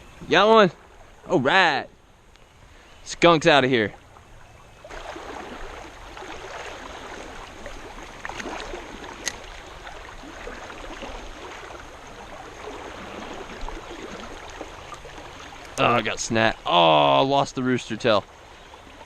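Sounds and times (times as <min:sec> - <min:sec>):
creek water flowing over rocks: 0:00.0 - 0:19.0.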